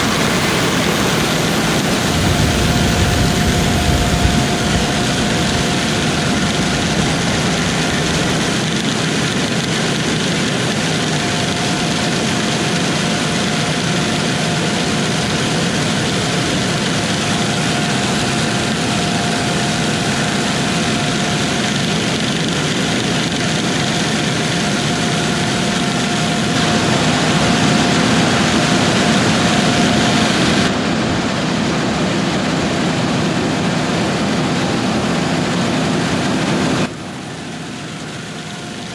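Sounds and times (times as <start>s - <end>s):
harvest machinery running: 0.0s - 38.9s
thin steady whine: 0.0s - 38.9s.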